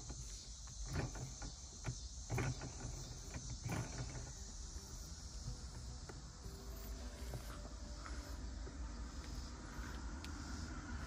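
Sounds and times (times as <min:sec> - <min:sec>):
steady faint hiss: 0:00.0 - 0:11.0.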